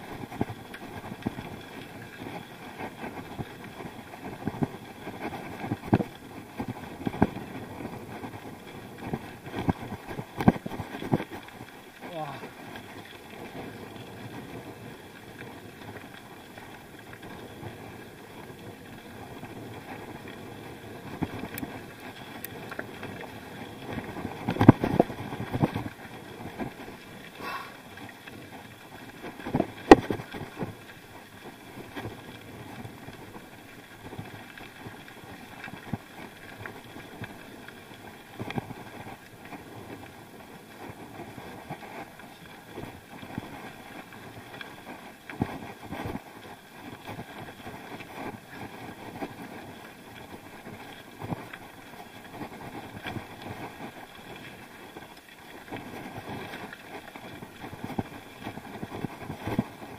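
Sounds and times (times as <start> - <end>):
bicycle rattling over rough track: 0.0 - 59.9
wind noise: 0.0 - 59.9.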